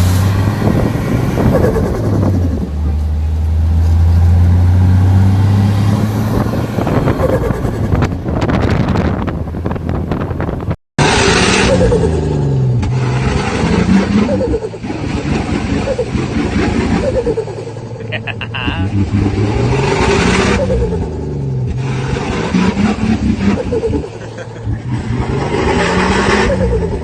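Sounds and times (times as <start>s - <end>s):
engine revving up and down: 0.0s - 27.0s
engine running hard: 0.0s - 27.0s.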